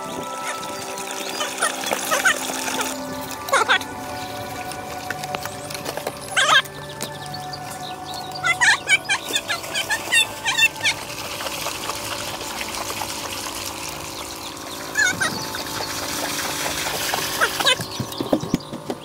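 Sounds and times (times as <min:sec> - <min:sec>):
water pouring into a pool: 0:00.0 - 0:06.4, 0:09.2 - 0:18.0
bird calls: 0:00.0 - 0:19.0.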